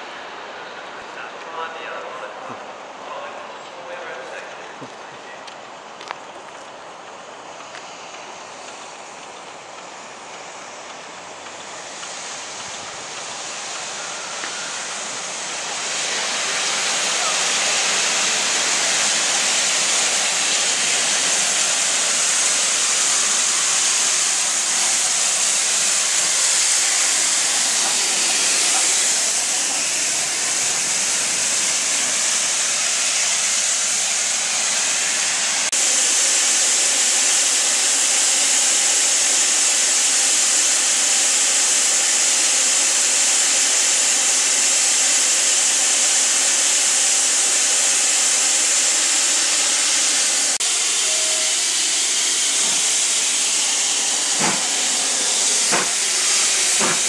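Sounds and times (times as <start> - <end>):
steam locomotive hissing: 6.6 - 57.0.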